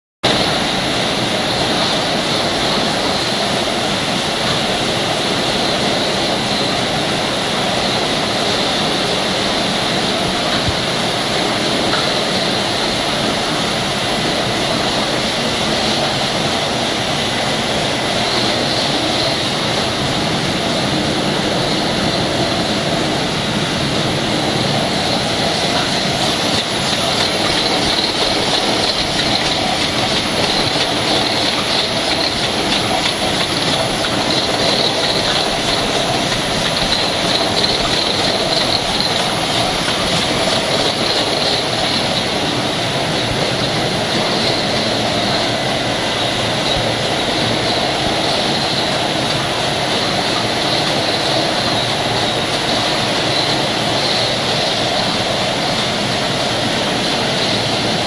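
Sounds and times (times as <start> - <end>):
filling machinery whirring and hissing: 0.2 - 58.0.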